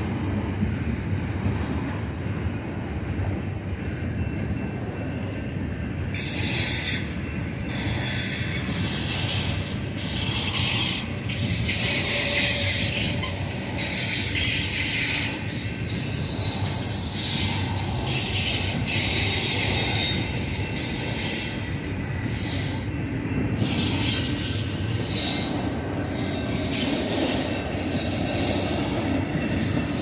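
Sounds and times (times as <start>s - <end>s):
train wheels rumbling on rail: 0.0s - 30.0s
high wheel squeal: 4.4s - 30.0s.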